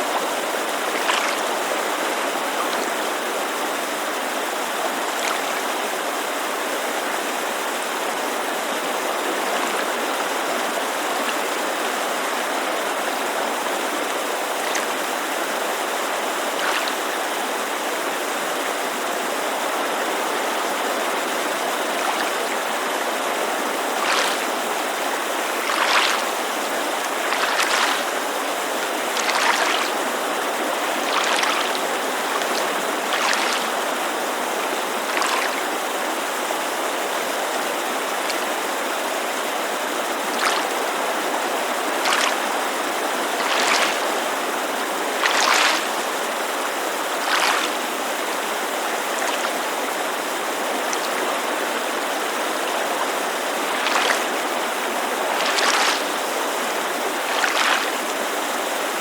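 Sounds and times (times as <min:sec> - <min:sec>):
creek rushing: 0:00.0 - 0:59.0
waves lapping against shore: 0:00.0 - 0:59.0.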